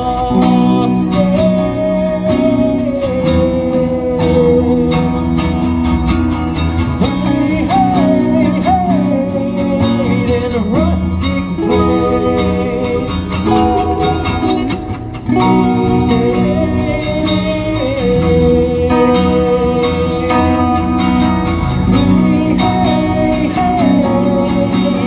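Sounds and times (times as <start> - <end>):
acoustic guitar: 0.0 - 25.0
electric guitar sliding lead melody: 0.0 - 25.0.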